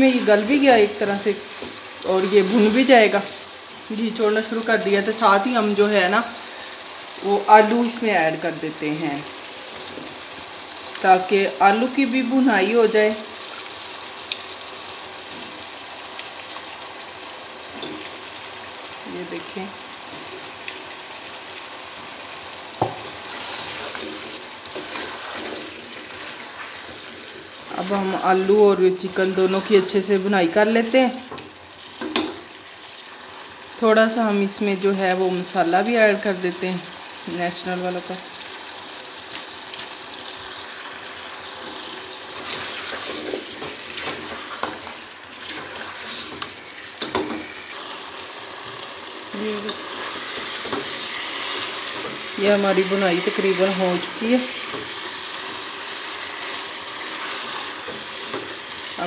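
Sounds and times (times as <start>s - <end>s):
food sizzling in a pot: 0.0s - 59.0s.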